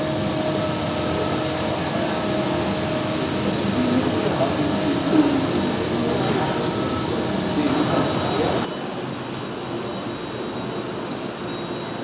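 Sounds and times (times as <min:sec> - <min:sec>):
high wheel squeal: 0:00.0 - 0:12.0
model trains rolling on track: 0:00.0 - 0:12.0
murmur of crowded hall: 0:00.0 - 0:12.0.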